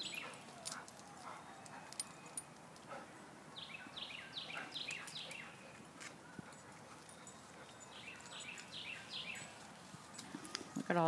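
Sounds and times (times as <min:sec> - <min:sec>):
faint background noise: 0:00.0 - 0:11.0
songbird singing: 0:00.0 - 0:11.0.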